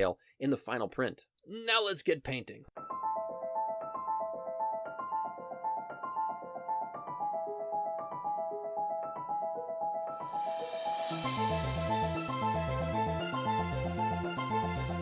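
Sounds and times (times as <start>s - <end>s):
light piano melody: 2.8s - 15.0s.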